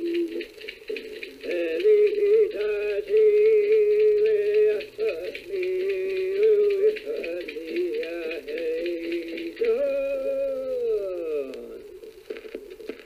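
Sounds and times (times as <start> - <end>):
man singing long notes: 1.4 - 12.0.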